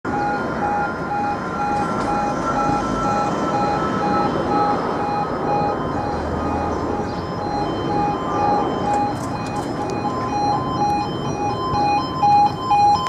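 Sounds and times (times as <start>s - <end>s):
level crossing alarm tones: 0.1s - 13.0s
road traffic: 0.1s - 13.0s.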